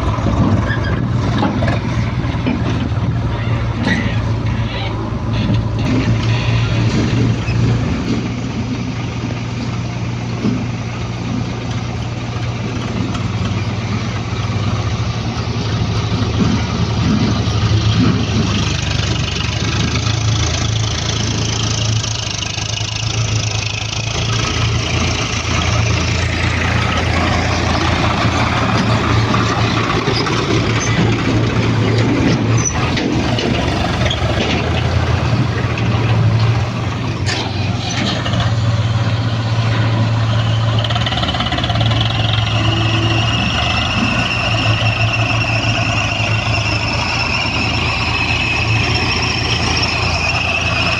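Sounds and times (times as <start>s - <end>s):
heavy diesel engines running: 0.0s - 50.9s.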